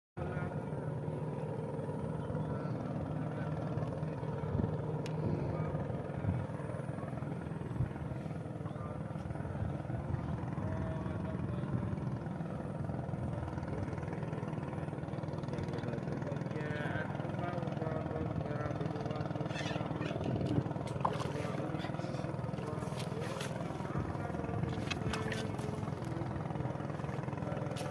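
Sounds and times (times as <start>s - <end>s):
motor droning: 0.2s - 27.9s.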